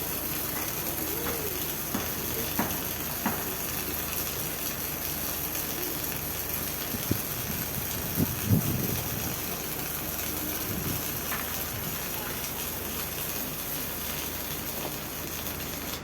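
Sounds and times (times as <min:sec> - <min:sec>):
welding machine hum and hiss: 0:00.0 - 0:16.0.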